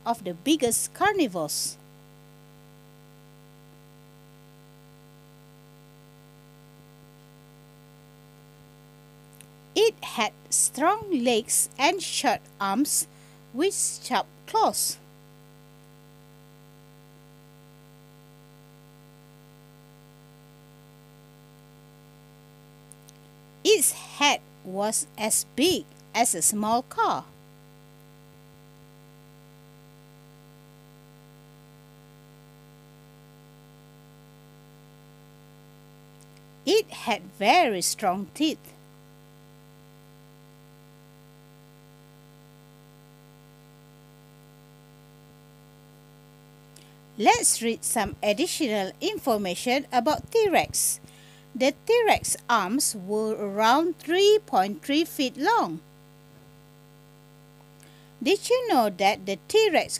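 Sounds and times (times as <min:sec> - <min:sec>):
faint electrical hum: 0:00.0 - 0:59.9.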